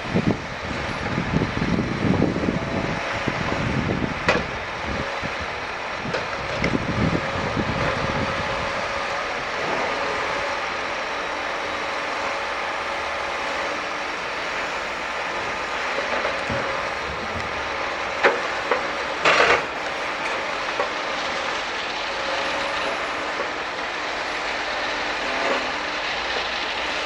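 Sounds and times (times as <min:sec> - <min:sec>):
hydraulic crane unloading logs: 0:00.0 - 0:27.0
truck engine running: 0:00.0 - 0:27.0.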